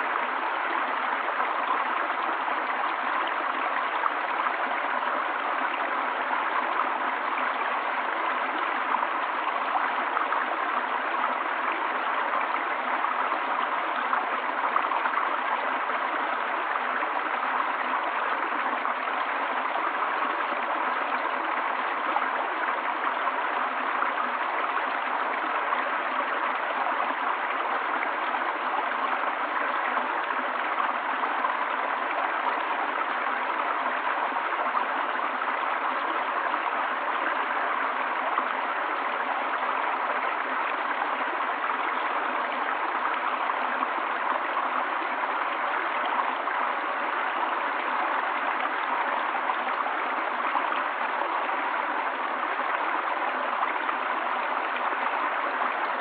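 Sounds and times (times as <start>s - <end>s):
stream splashing over stones: 0.0s - 56.0s.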